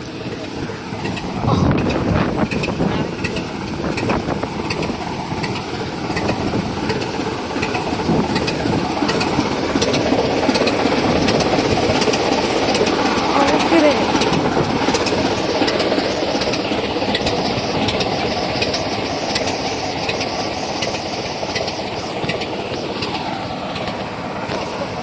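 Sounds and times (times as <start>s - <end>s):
diesel locomotive idling: 0.0s - 25.0s.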